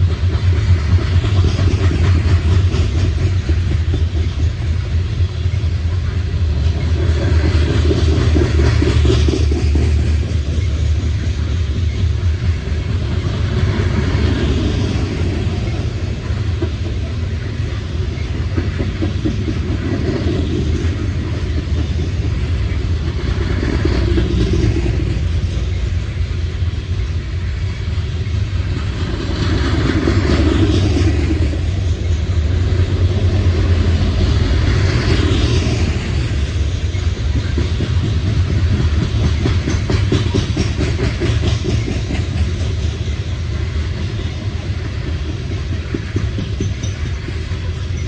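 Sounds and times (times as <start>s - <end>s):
train wheels rumbling on track: 0.0s - 48.0s.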